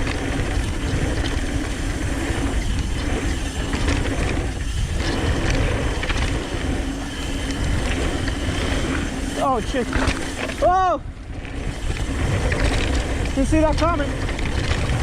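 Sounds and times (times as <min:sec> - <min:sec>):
bike freehub ratchet buzzing: 0:00.0 - 0:15.0
bike rattling clicks: 0:00.0 - 0:15.0
tyre noise: 0:00.0 - 0:15.0
wind rumble on microphone: 0:00.0 - 0:15.0.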